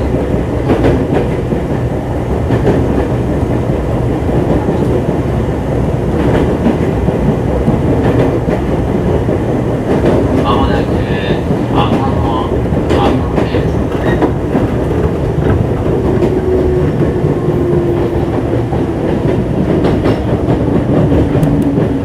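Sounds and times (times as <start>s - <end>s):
rail-joint clicks: 0.0s - 22.0s
train motors and wheels rumbling: 0.0s - 22.0s.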